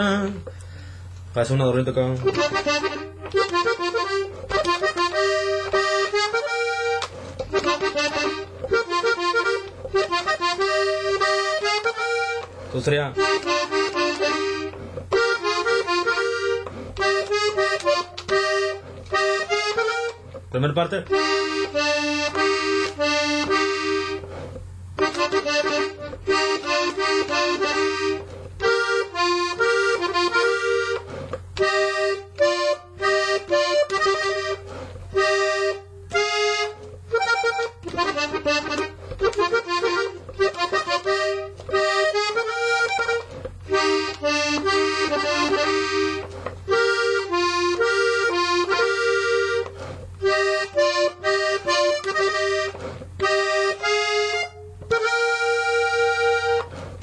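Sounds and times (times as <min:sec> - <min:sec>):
button accordion melody: 0:00.0 - 0:57.0
steady low hum: 0:00.0 - 0:57.0.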